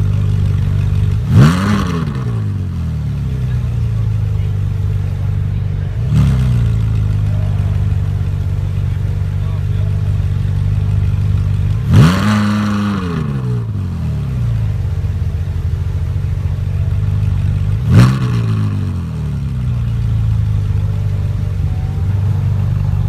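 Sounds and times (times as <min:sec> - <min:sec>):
car engine idling: 0:00.0 - 0:23.0
car engine revving: 0:00.0 - 0:23.0.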